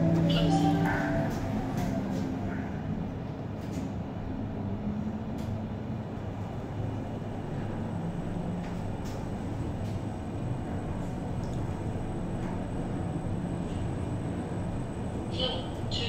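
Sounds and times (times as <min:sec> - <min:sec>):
lift car rumble and hum: 0:00.0 - 0:16.0.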